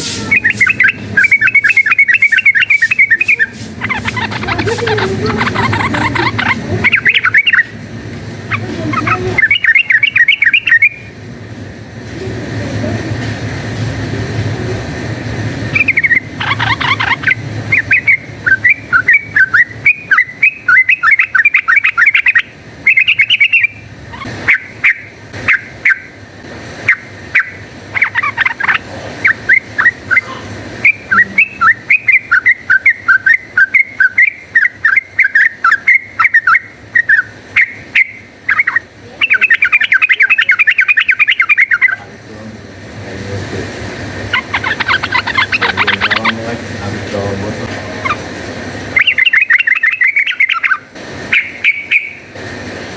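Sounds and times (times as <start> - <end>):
bulbul chattering song: 0.0 - 11.2, 15.1 - 26.2, 26.8 - 42.2, 43.4 - 52.6.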